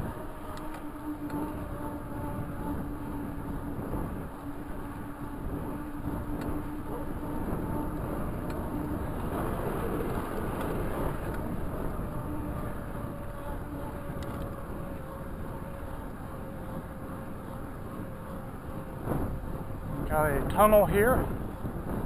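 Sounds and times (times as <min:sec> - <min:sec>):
bike tyres rolling on pavement: 0:00.0 - 0:22.0
wind on microphone: 0:00.0 - 0:22.0.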